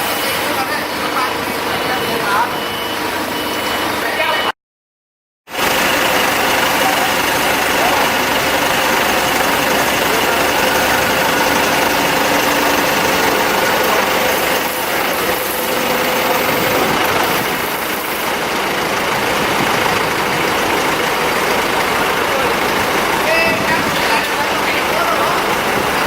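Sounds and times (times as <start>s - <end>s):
diesel generator running: 0.0s - 4.5s, 5.5s - 26.0s.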